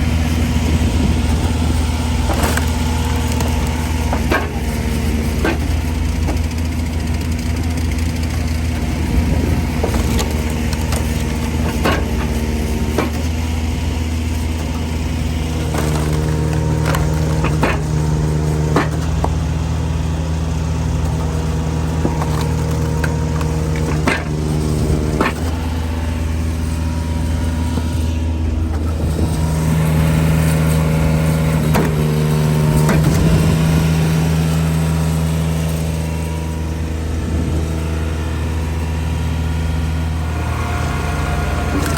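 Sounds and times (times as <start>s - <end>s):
logs cracking and splitting: 0.0s - 40.2s
log splitter engine running: 0.0s - 41.9s.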